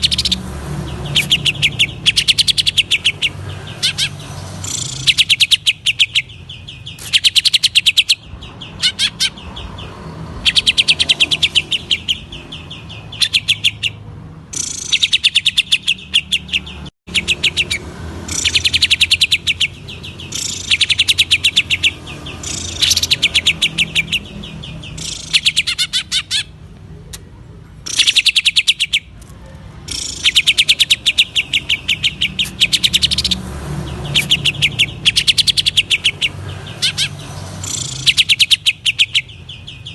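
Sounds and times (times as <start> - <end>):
bird singing stuttering notes: 0.0 - 26.6, 27.8 - 29.1, 29.8 - 39.9.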